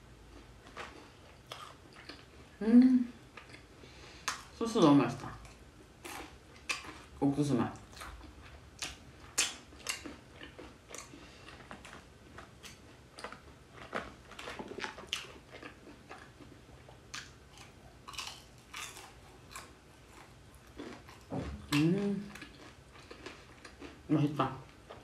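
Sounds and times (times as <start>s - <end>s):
person chewing food: 0.2s - 2.5s, 3.3s - 4.6s, 5.2s - 7.2s, 7.8s - 25.0s.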